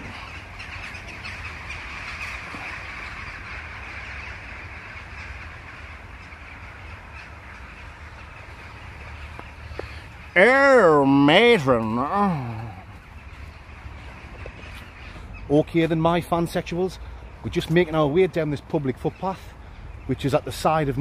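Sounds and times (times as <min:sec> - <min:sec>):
crows cawing: 0:00.0 - 0:17.4, 0:19.1 - 0:20.2
low steady rumble: 0:00.0 - 0:21.0.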